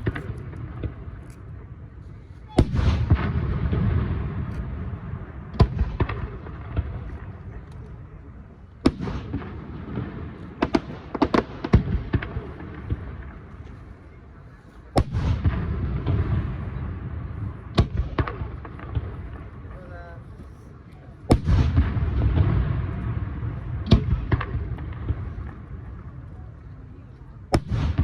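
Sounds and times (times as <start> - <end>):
fireworks booming: 0.0 - 14.1, 14.8 - 26.6, 27.4 - 28.0
low rolling rumble of echo: 0.0 - 28.0.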